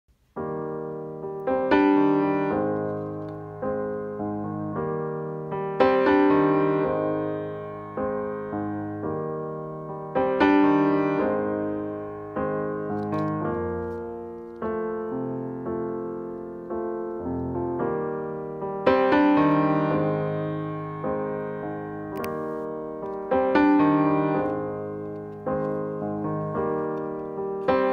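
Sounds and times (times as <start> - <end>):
slow solo piano chords: 0.2 - 27.9.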